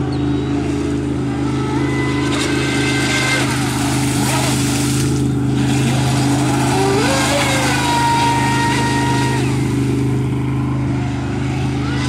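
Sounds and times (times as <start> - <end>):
electric motor high whine: 0.0 - 12.0
steady low hum: 0.0 - 12.0.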